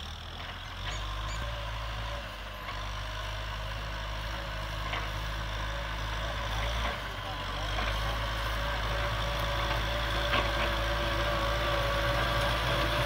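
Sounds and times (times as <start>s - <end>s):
tractor diesel engine humming: 0.0s - 13.0s.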